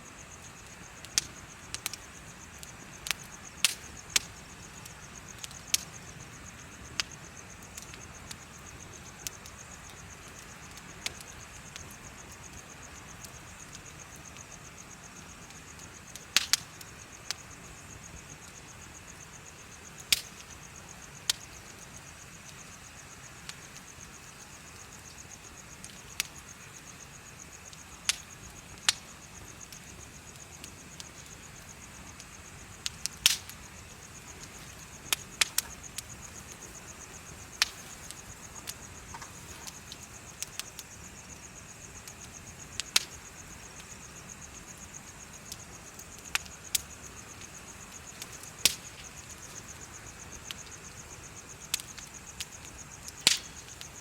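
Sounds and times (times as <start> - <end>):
bonfire crackling: 0.0 - 54.0
insects chirping trill: 0.0 - 54.0.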